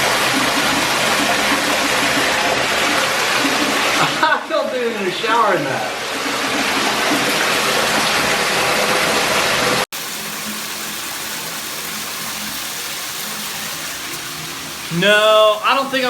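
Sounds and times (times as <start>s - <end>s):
shower water running: 0.0s - 16.0s.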